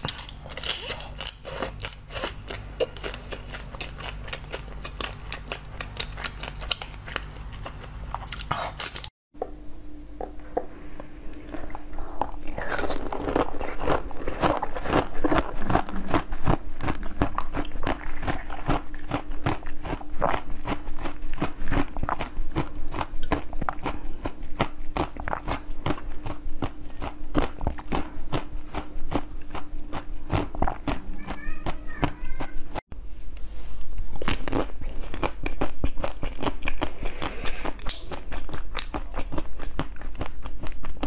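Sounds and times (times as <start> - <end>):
person chewing a hard sweet: 0.0 - 9.1, 10.2 - 31.8, 34.1 - 41.0
faint steady hum: 0.0 - 41.0.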